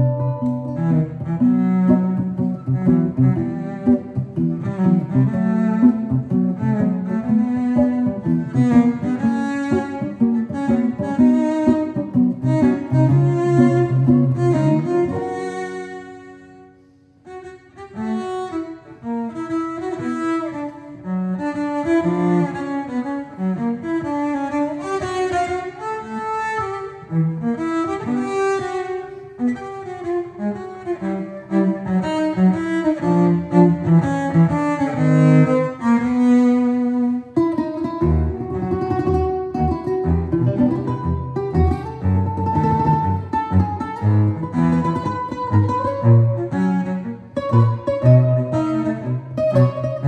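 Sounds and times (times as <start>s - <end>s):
cello bowed melody: 0.0s - 50.0s
plucked strings: 0.0s - 50.0s.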